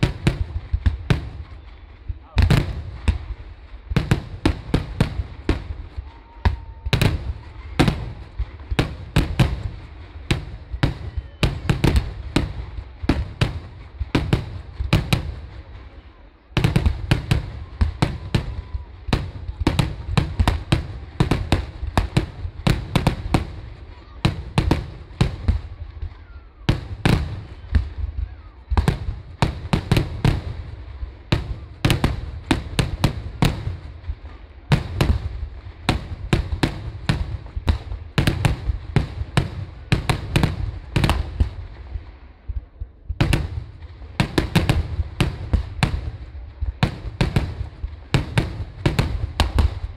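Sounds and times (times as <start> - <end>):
firecracker barrage bangs: 0.0 - 49.9.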